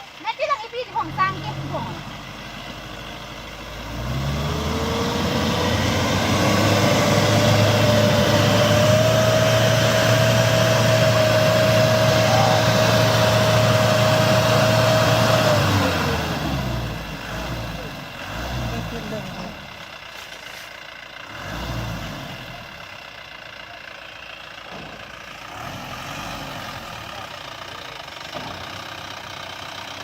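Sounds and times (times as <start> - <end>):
vehicle engine revving: 0.8 - 20.2, 21.2 - 23.0, 25.1 - 29.9.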